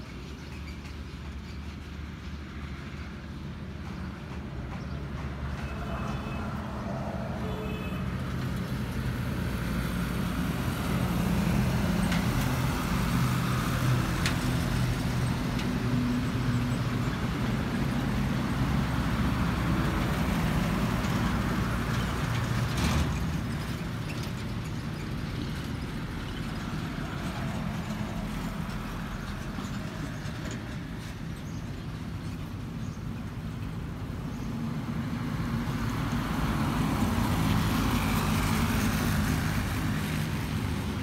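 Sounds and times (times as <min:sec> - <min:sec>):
road traffic: 0:00.0 - 0:41.0.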